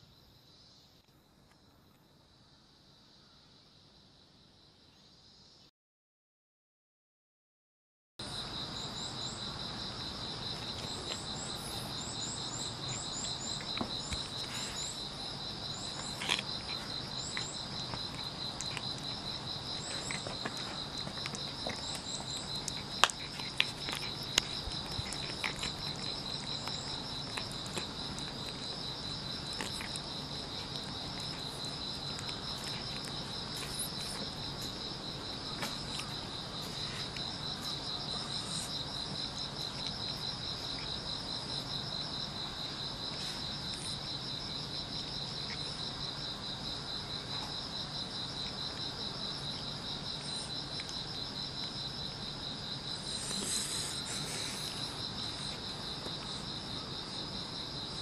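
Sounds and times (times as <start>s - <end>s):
insects chirping: 0.0s - 5.7s, 8.2s - 58.0s.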